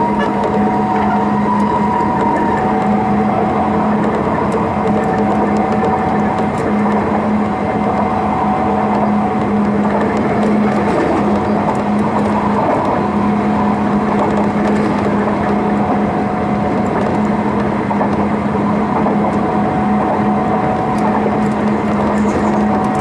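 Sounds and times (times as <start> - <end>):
constant low hum: 0.0 - 23.0
wheel and rail rumble: 0.0 - 23.0.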